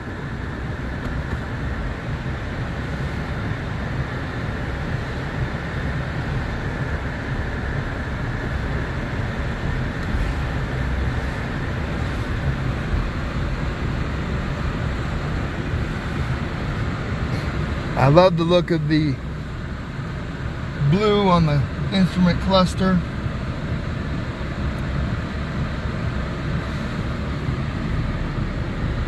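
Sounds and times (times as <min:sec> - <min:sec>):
engine and road rumble in car: 0:00.0 - 0:29.0.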